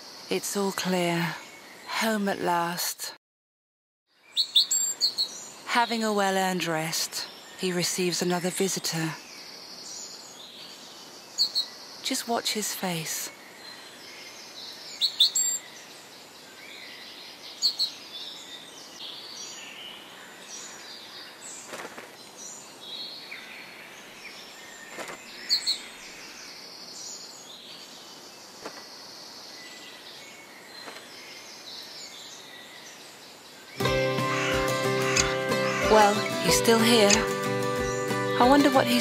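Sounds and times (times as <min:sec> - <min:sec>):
wild birds chirping: 0:00.0 - 0:03.1, 0:04.1 - 0:39.0
faint outdoor hiss: 0:00.0 - 0:03.2, 0:04.1 - 0:39.0.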